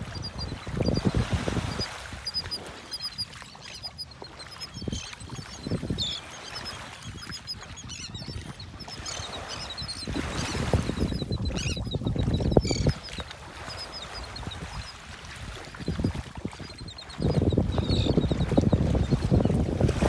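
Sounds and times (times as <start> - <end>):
terns and gulls calling: 0.0 - 19.5.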